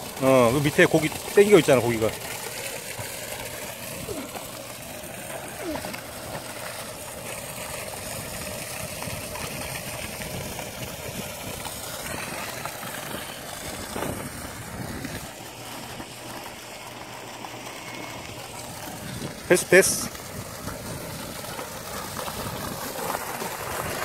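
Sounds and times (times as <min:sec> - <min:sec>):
mechanical hum: 0:00.0 - 0:24.0
water pouring into pond: 0:00.0 - 0:24.0.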